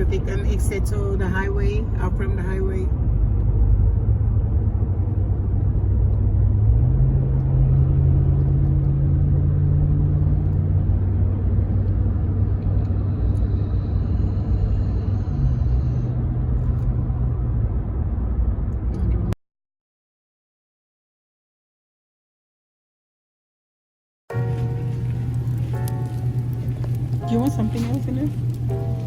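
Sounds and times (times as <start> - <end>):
car engine drone: 0.0 - 19.4, 24.3 - 29.0
road noise inside car: 0.0 - 19.4, 24.3 - 29.0.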